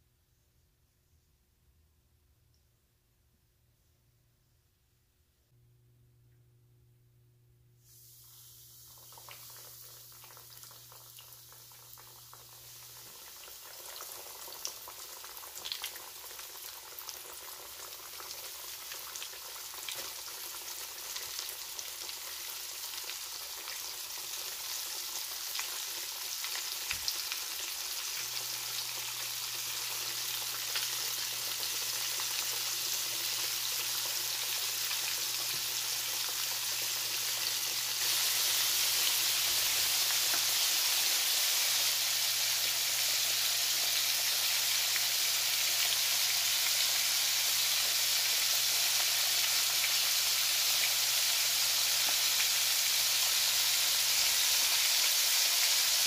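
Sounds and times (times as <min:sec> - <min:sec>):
chicken deep-frying in oil: 0:07.8 - 0:56.0.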